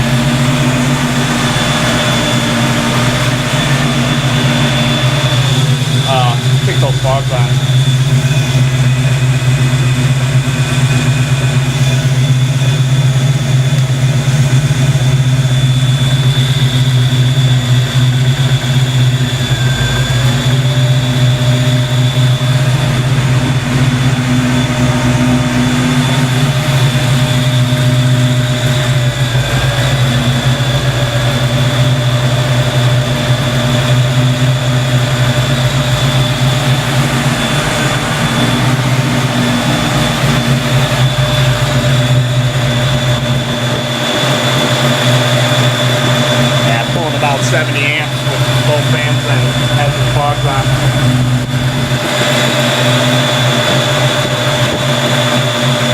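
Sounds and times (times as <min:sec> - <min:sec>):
car engine idling: 0:00.0 - 0:55.9
radiator cooling fans whining: 0:00.0 - 0:55.9.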